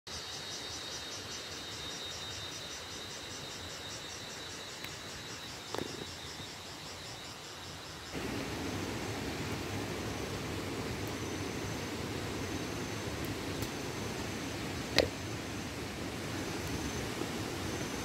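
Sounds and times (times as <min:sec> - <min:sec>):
insects chirping: 0:00.1 - 0:18.0
even hiss: 0:00.2 - 0:18.0.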